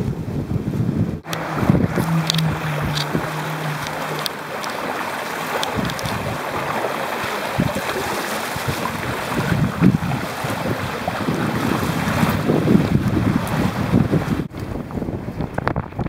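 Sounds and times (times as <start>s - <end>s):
boat hull rushing through water: 0.0s - 16.0s
wind buffeting microphone: 0.0s - 16.0s.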